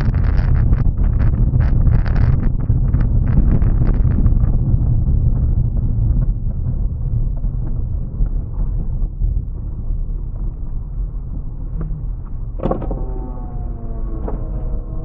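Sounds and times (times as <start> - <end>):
car rumbling on gravel: 0.0 - 15.0
steady pitched hum: 0.0 - 15.0.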